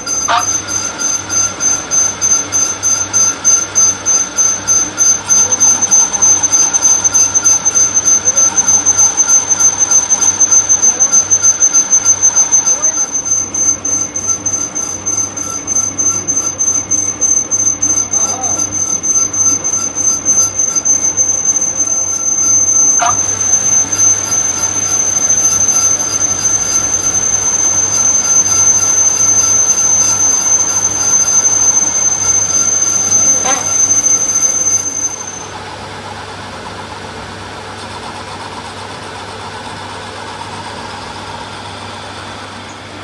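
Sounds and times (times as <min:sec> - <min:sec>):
short squeal: 0:00.0 - 0:35.6
lathe whining and humming: 0:00.0 - 0:43.0.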